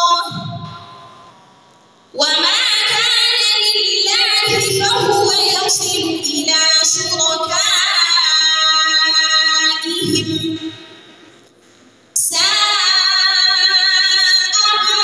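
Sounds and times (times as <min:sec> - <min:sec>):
woman chanting into a microphone: 0:00.0 - 0:00.8, 0:02.2 - 0:10.9, 0:12.2 - 0:15.0.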